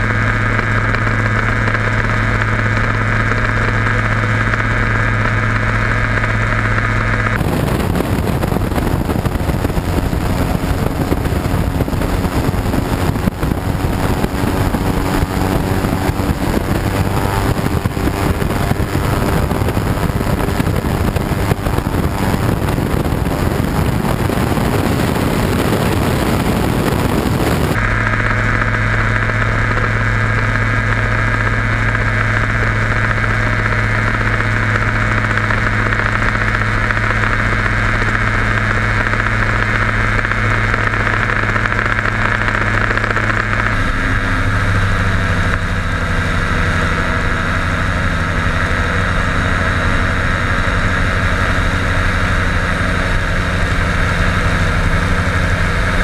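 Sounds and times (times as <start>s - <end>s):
aircraft engine and propeller: 0.0s - 56.0s
wind rushing on microphone: 0.0s - 56.0s.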